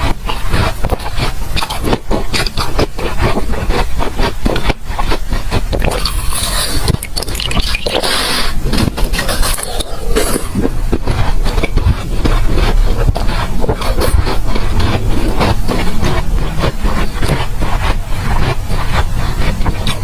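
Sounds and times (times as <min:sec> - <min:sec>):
crunching and chewing ice: 0:00.0 - 0:20.0.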